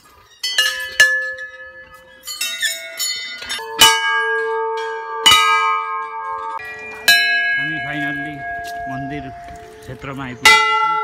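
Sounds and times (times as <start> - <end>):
brass bells clanging: 0.0 - 11.0.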